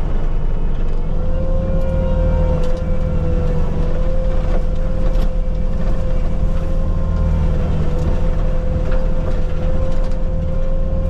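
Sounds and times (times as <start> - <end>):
diesel engine rumble: 0.0 - 11.0.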